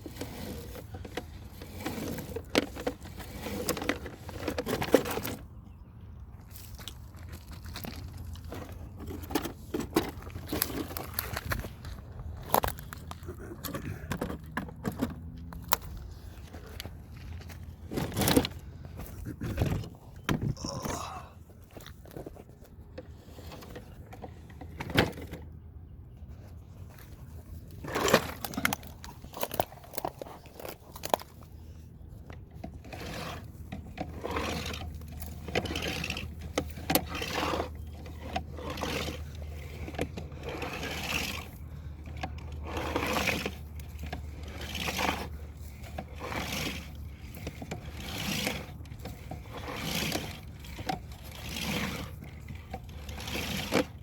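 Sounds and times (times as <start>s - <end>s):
cable scraping and knocking: 0.0s - 5.7s, 6.4s - 54.0s.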